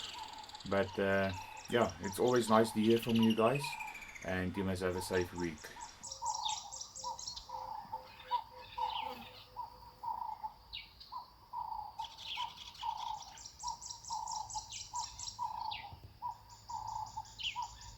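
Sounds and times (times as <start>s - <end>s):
bird repeating low note: 0.0s - 17.9s.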